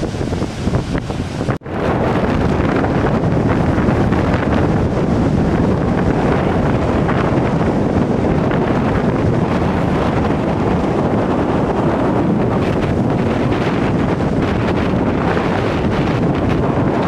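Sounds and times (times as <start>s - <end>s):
breaking surf: 0.0s - 17.0s
wind buffeting microphone: 0.0s - 17.0s.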